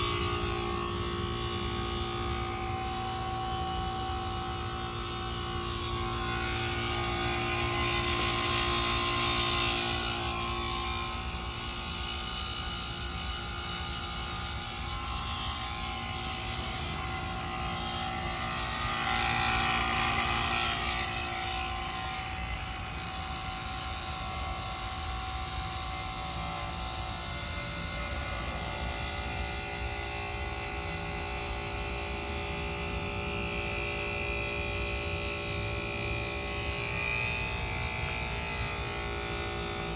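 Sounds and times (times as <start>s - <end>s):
heat pump humming: 0.0s - 39.9s.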